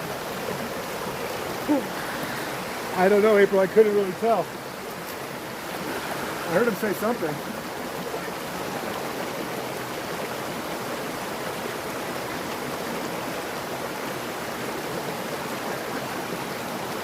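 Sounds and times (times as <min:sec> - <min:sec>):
stream splashing over rocks: 0:00.0 - 0:17.0.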